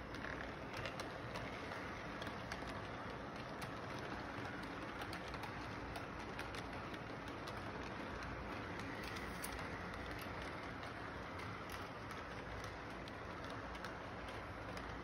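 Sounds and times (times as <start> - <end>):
model train cars rolling: 0.0 - 15.0
wheels clicking over rail joints: 0.0 - 15.0.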